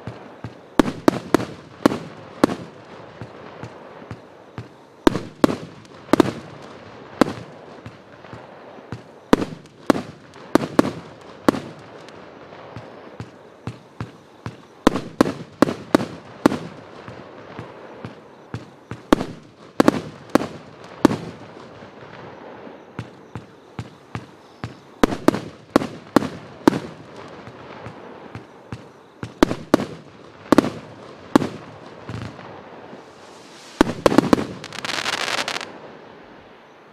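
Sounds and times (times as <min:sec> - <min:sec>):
fireworks barrage bangs: 0:00.0 - 0:35.8.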